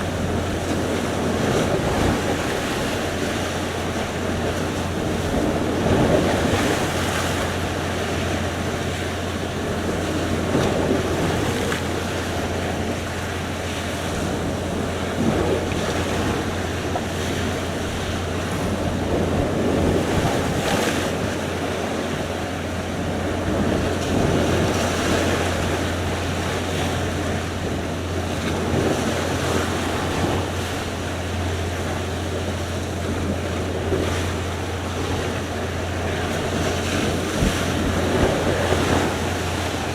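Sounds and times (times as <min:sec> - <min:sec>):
waves washing in: 0:00.0 - 0:39.9.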